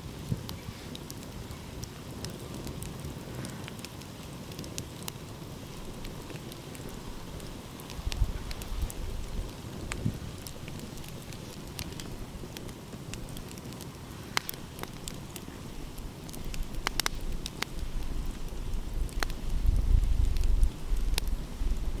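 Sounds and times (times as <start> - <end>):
wood fire crackling: 0.0 - 22.0
sharp pops and snaps: 0.5 - 21.4.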